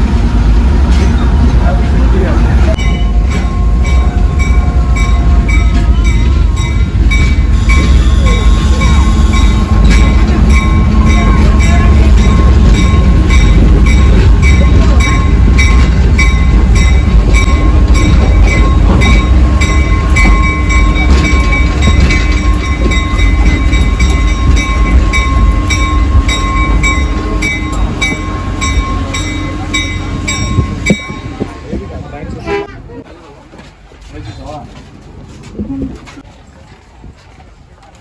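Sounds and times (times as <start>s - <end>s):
railcar wheels rolling on track: 0.0s - 38.0s.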